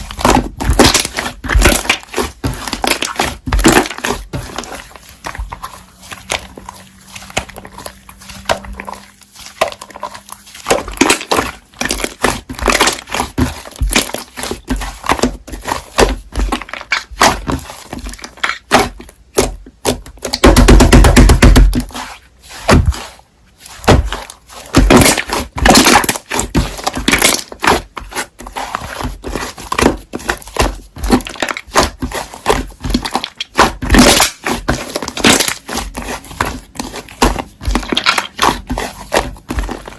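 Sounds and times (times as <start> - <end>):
slime squishing and crackling: 0.0 - 39.9.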